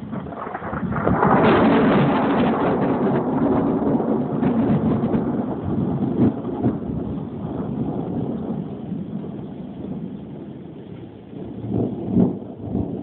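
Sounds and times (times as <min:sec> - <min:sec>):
crackling rumble of thunder: 0:00.0 - 0:13.0
rain falling: 0:00.0 - 0:13.0.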